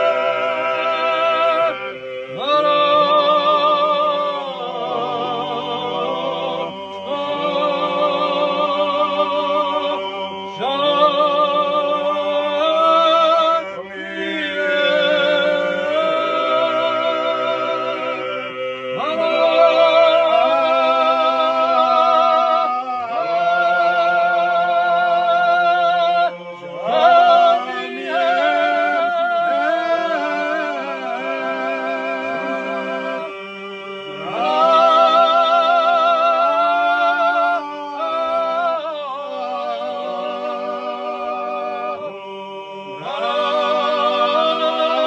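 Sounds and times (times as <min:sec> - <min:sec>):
men singing polyphony: 0:00.0 - 0:45.0.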